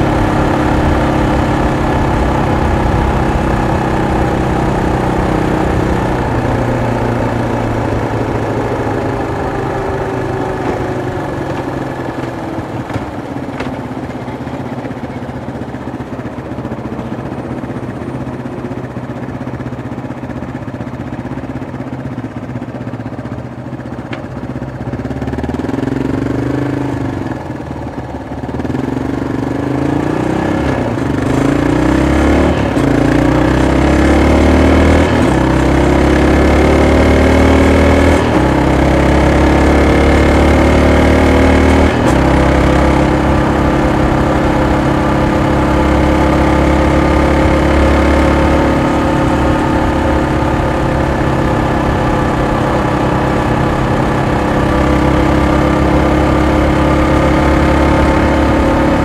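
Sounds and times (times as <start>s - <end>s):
motorcycle engine idling: 0.0s - 36.5s, 41.9s - 59.0s
motorcycle accelerating through gears: 0.0s - 59.0s.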